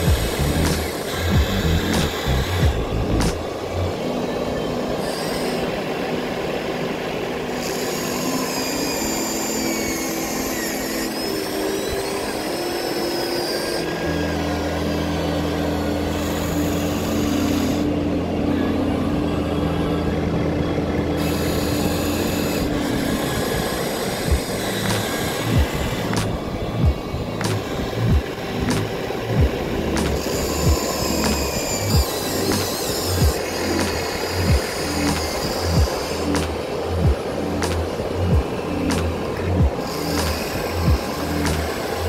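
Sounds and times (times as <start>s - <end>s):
small electric motors whining: 0.0s - 42.0s.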